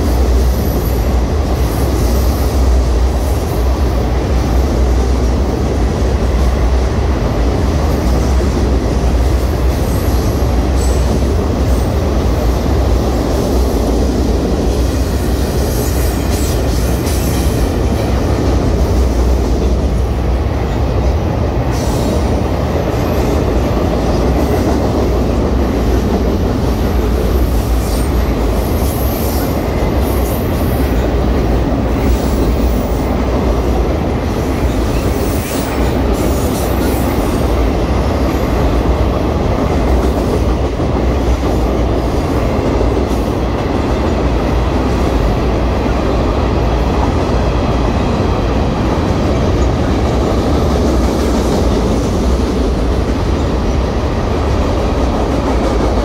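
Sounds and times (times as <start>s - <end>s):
freight train rumbling on bridge: 0.0s - 56.0s.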